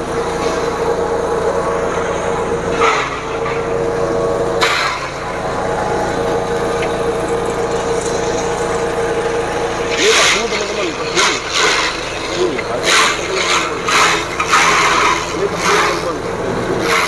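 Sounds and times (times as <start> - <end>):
forage chopper whining: 0.0 - 17.0
wood crunching: 0.0 - 17.0.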